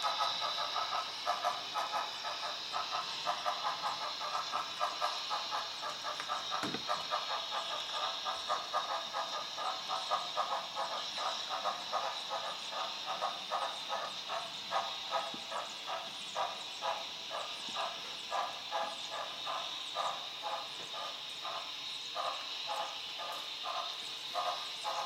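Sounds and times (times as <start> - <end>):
constant hiss: 0.0 - 25.0
model steam locomotive chuffs: 0.0 - 25.0.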